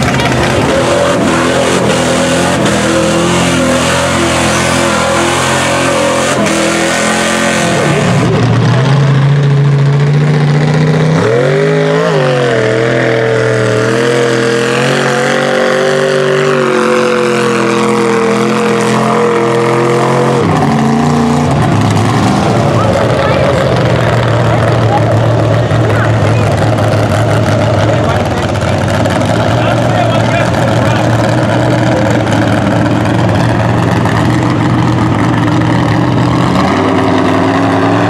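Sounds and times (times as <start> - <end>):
truck engines revving: 0.0 - 38.0.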